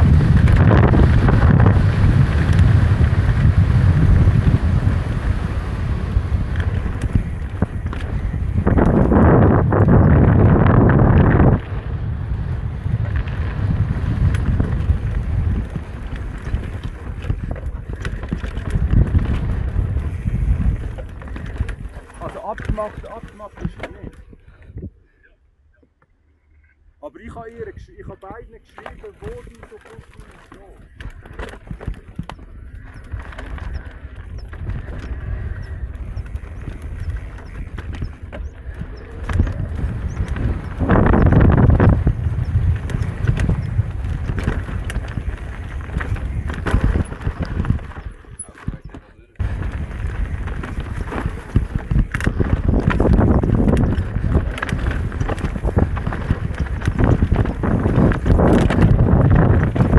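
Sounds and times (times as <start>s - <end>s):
sharp clicks and knocks from bike: 0.0s - 11.9s, 12.8s - 24.8s, 28.2s - 59.9s
mountain bike rumbling and rattling: 0.0s - 25.0s, 25.8s - 59.9s
wind buffeting microphone: 0.0s - 25.1s, 27.2s - 59.9s.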